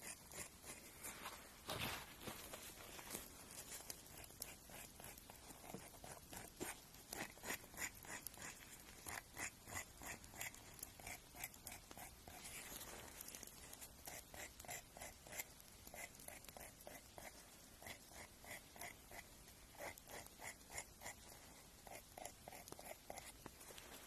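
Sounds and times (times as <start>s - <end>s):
nail grinding on fingernail: 0.0s - 1.0s, 3.8s - 12.6s, 13.2s - 23.6s.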